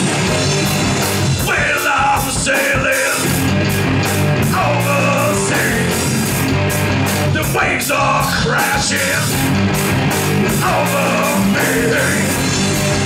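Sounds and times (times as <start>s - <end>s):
drum kit with cymbals: 0.0s - 13.0s
electric bass: 0.0s - 13.0s
electric guitar: 0.0s - 13.0s.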